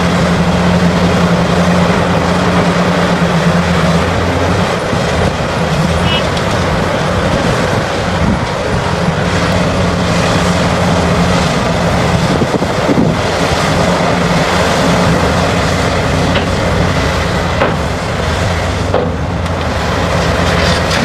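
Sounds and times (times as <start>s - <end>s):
diesel engines under load: 0.0s - 21.0s.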